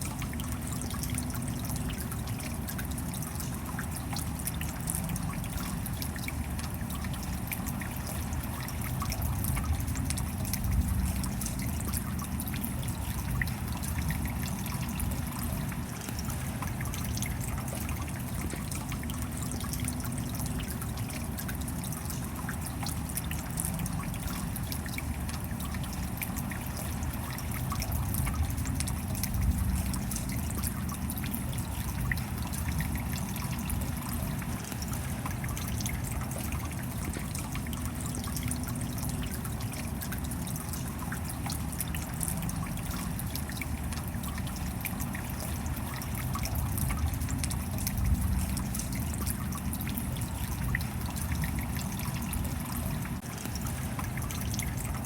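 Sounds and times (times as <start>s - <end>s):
steady rain falling: 0.0s - 55.0s
water trickling and dripping: 0.0s - 55.0s.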